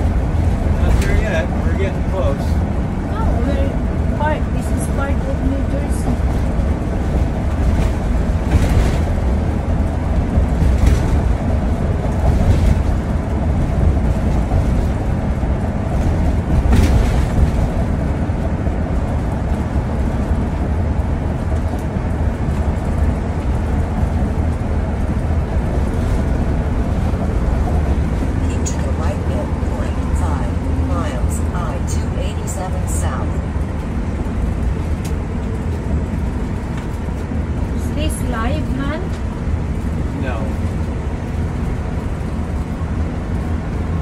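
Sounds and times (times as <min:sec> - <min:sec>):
engine and road rumble: 0:00.0 - 0:44.0.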